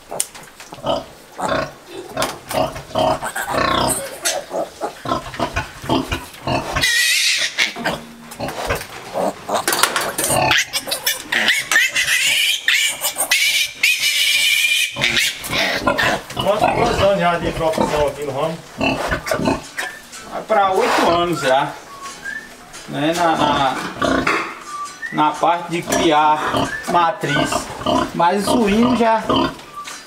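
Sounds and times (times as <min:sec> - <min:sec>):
piglets squealing and grunting: 0:00.0 - 0:21.9, 0:22.9 - 0:25.0, 0:25.8 - 0:29.7.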